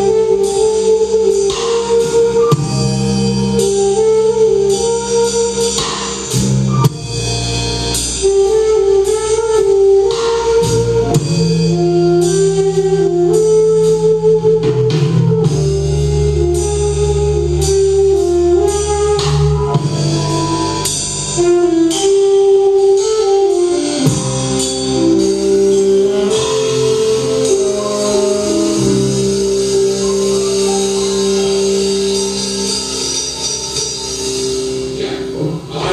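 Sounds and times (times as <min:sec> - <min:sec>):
live band playing: 0:00.0 - 0:35.9.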